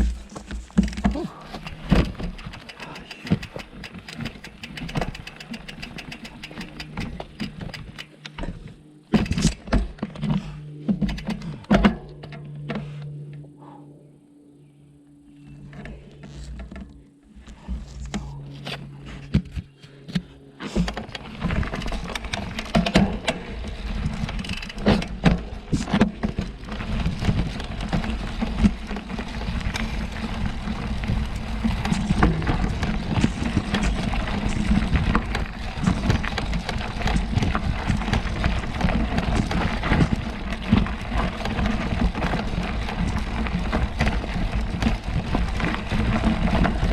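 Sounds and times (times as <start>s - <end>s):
bike knocking and rattling: 0.0s - 13.2s, 19.2s - 46.9s
bike tyres on dirt trail: 0.0s - 13.3s, 15.4s - 46.9s.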